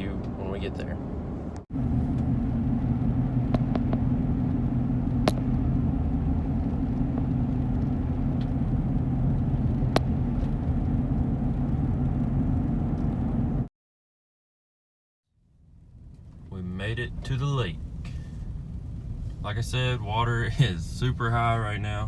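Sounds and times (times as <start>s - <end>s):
vehicle engine and road noise: 0.0s - 13.7s, 15.3s - 22.0s.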